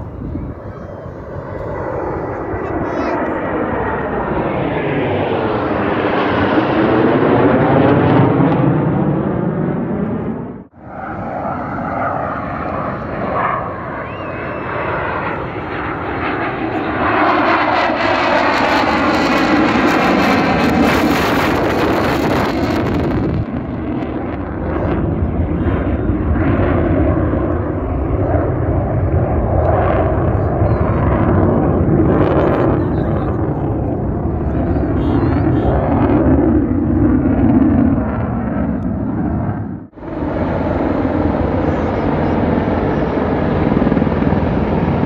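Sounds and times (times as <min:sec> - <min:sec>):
jet flying overhead: 0:00.0 - 0:45.0.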